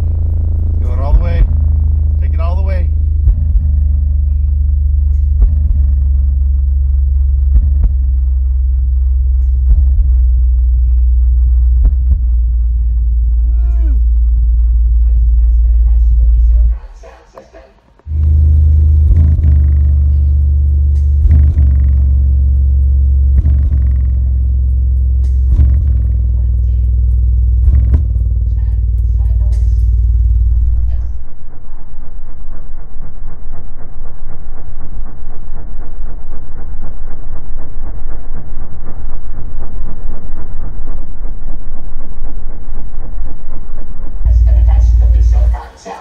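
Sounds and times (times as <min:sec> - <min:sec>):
deep subwoofer bass note: 0:00.0 - 0:16.8, 0:18.0 - 0:45.6.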